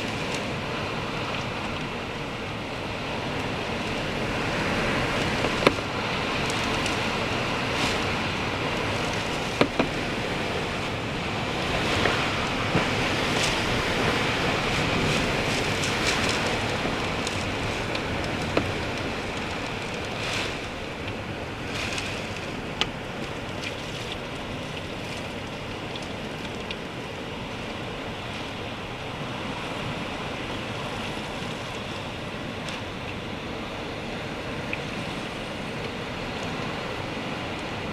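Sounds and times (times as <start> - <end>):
driving rain: 0.0 - 37.9
hurricane wind: 0.0 - 37.9.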